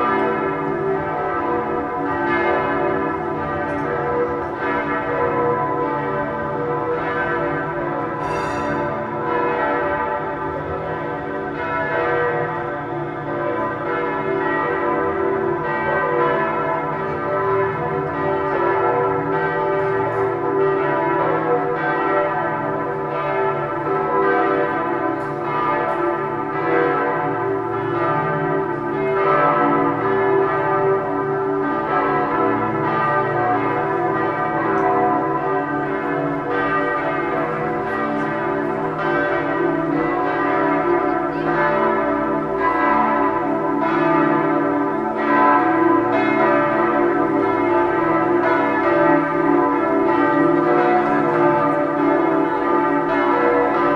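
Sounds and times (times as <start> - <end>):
church bells pealing: 0.0 - 53.9.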